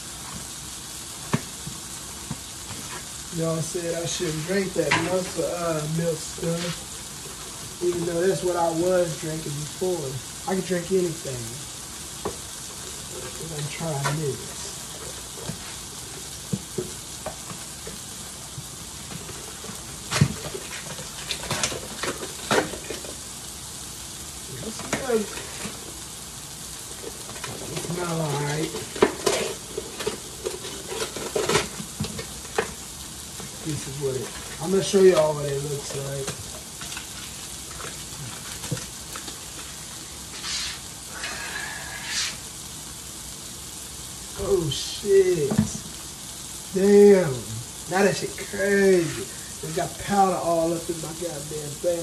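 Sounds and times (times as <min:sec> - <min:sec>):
short rustling hiss: 0:00.0 - 0:51.9
sausage sizzling in a frying pan: 0:00.0 - 0:52.0.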